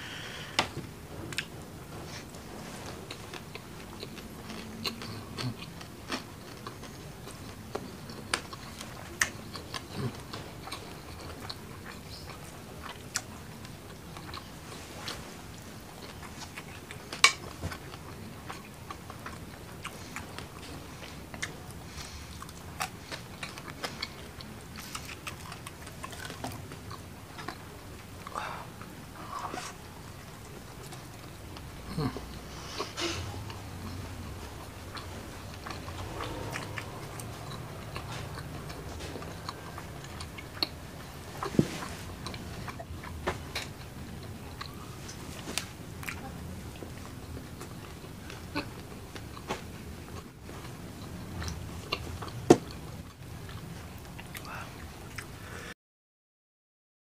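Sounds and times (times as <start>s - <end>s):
chewing and wet mouth sounds: 0.7s - 55.6s.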